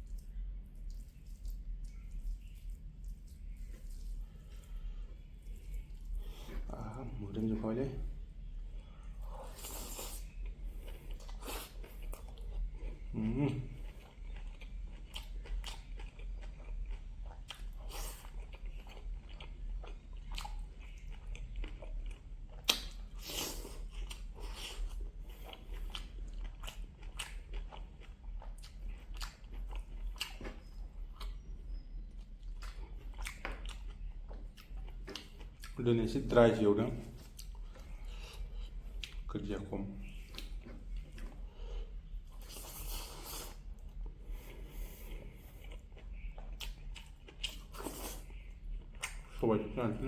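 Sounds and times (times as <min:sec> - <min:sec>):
person chewing food: 0:00.0 - 0:07.4, 0:08.0 - 0:39.3, 0:40.0 - 0:49.4.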